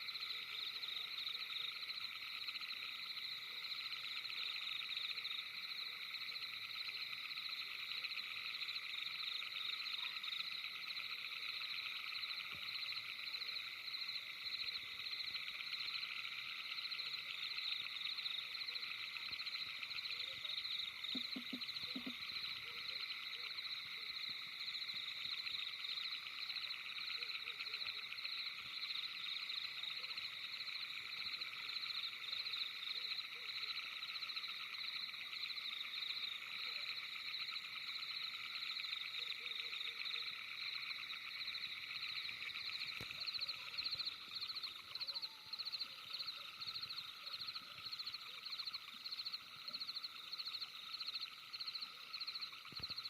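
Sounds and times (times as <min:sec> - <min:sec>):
frogs or insects trilling: 0:00.0 - 0:53.0.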